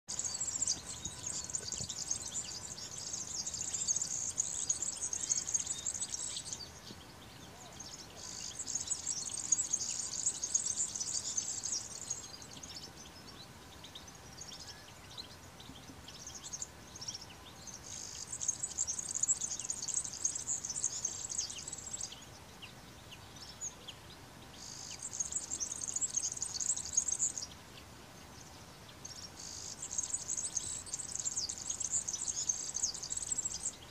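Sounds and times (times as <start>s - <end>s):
finches twittering: 0.1s - 33.9s.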